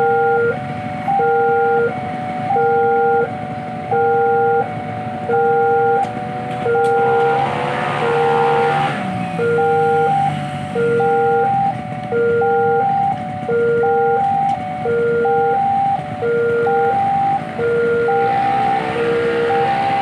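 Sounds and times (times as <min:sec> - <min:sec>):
low rumble of road traffic: 0:00.0 - 0:20.0
three-tone crossing alarm chime: 0:00.0 - 0:20.0.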